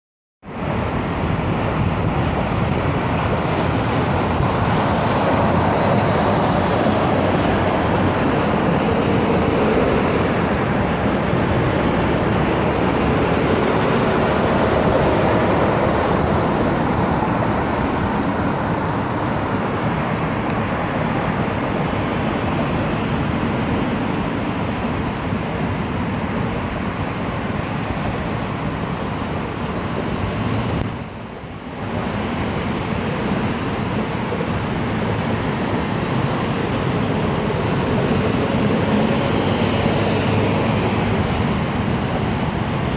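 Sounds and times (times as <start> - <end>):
highway traffic roar: 0.4 - 42.9.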